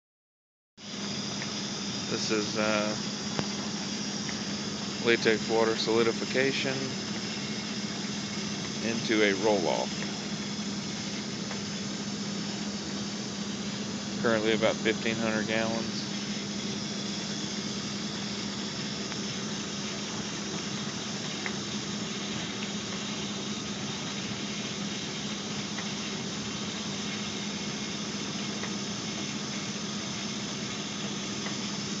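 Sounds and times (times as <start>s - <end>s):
pump humming: 0.8s - 32.0s
hose hissing: 0.9s - 32.0s.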